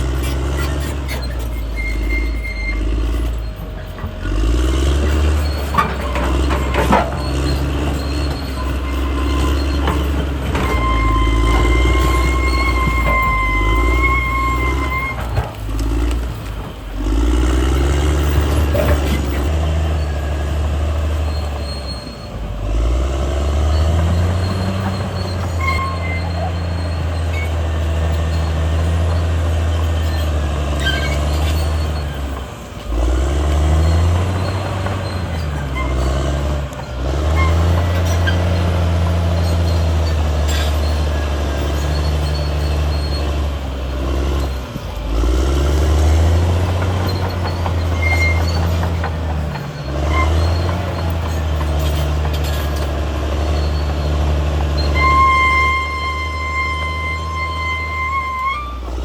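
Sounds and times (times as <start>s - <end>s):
bulldozer diesel engine working: 0.0s - 59.0s
high metallic squeaks: 0.0s - 59.0s.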